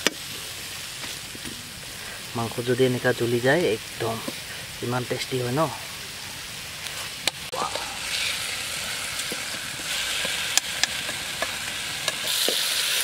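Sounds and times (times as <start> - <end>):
curry sizzling in a wok: 0.0 - 13.0.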